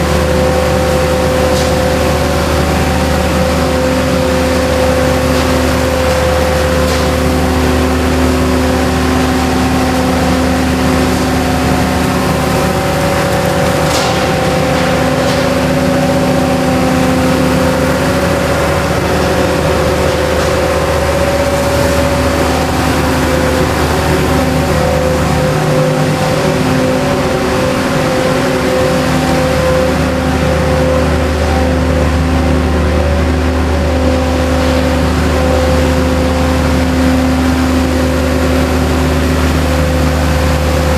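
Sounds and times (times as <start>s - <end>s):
machinery droning: 0.0s - 40.9s.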